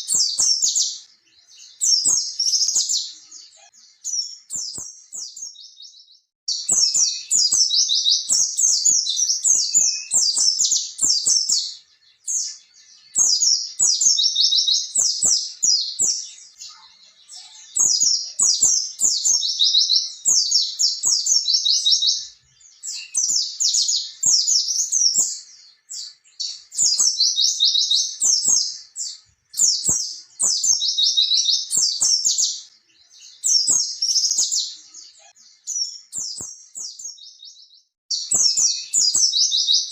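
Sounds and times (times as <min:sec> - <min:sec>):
bird high-pitched chattering song: 0:00.0 - 0:05.8, 0:06.5 - 0:37.2, 0:38.1 - 0:39.9.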